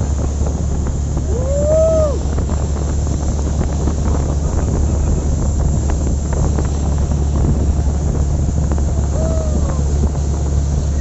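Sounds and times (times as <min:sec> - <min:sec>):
boat engine drone: 0:00.0 - 0:11.0
wind buffeting microphone: 0:00.0 - 0:11.0.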